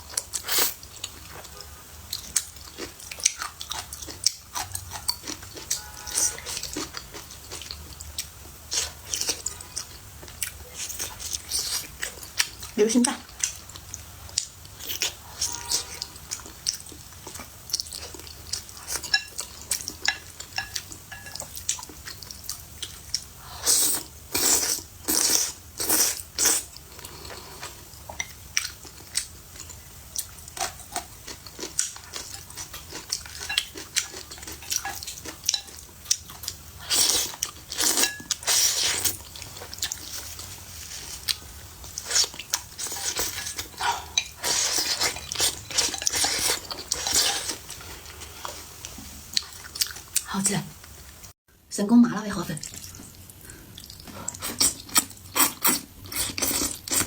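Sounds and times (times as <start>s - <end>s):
person chewing and smacking: 0.0s - 40.5s, 41.1s - 47.9s, 49.3s - 51.0s, 52.6s - 57.0s.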